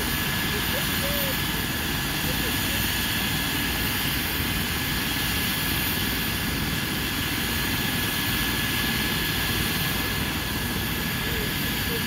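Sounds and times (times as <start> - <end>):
high turbine whine: 0.0 - 12.0
low engine and rotor noise: 0.0 - 12.0.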